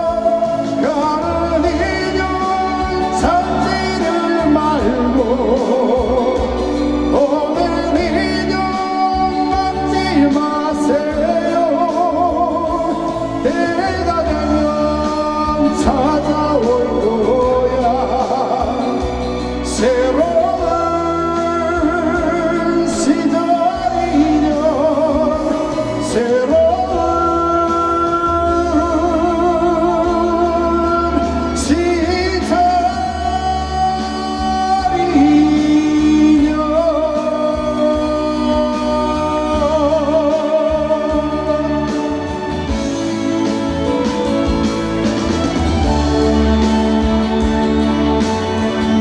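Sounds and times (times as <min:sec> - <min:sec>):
bass-heavy backing track: 0:00.0 - 0:49.0
person singing with vibrato: 0:00.0 - 0:49.0.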